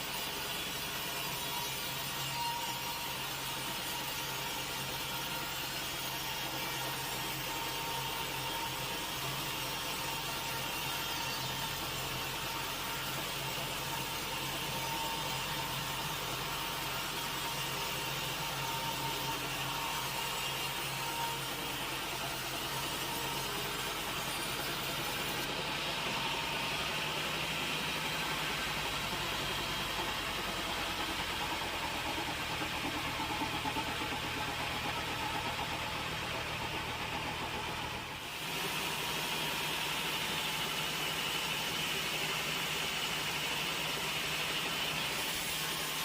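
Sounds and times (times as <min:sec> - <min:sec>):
sawmill machinery running: 0:00.0 - 0:46.0.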